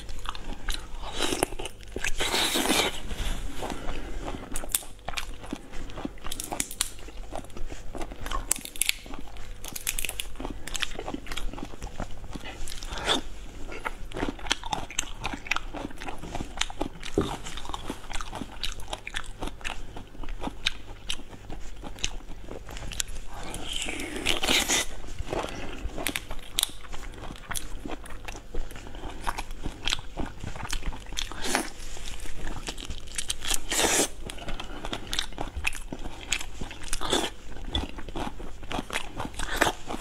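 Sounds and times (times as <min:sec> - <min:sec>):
person chewing shrimp: 0:00.0 - 0:40.0.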